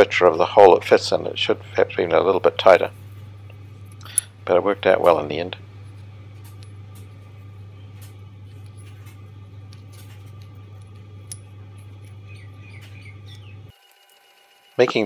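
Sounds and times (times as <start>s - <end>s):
low hum: 0.0s - 14.1s.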